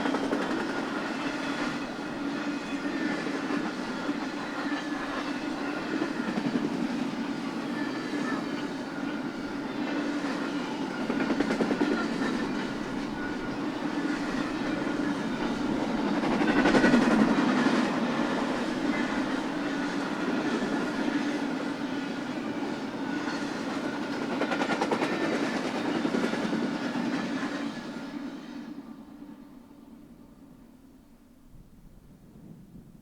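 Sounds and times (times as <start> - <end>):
freight train wheels rumbling on rail: 0.0 - 33.0.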